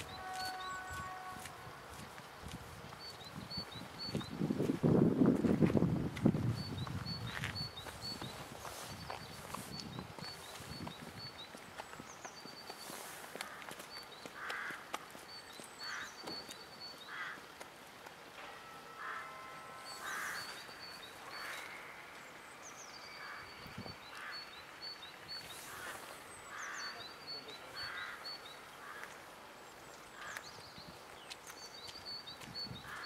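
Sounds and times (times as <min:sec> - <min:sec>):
faint street noise: 0:00.0 - 0:33.0.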